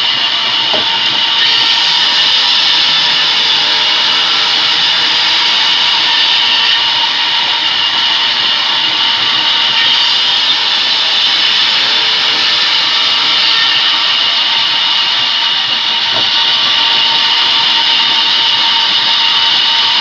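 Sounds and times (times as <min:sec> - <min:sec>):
band saw cutting wood: 0:00.0 - 0:20.0.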